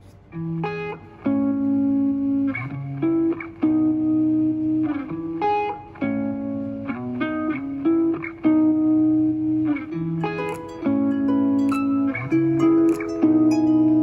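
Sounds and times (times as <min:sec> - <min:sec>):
guitar music through speaker: 0:00.0 - 0:14.0.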